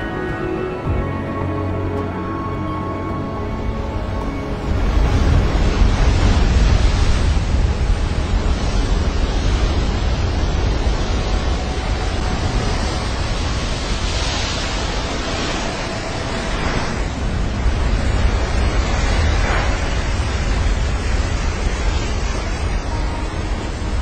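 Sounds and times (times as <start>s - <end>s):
wind noise on microphone: 0.0s - 24.0s
ocean wave roaring: 3.2s - 24.0s.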